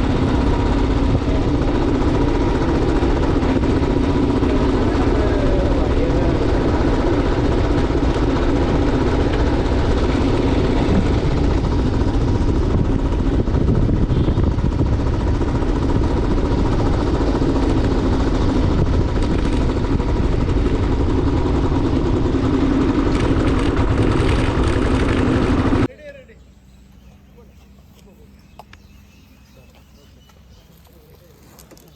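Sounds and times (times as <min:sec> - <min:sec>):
motorcycle engine running: 0:00.0 - 0:25.9
wind and road noise: 0:00.0 - 0:25.9, 0:27.0 - 0:31.9.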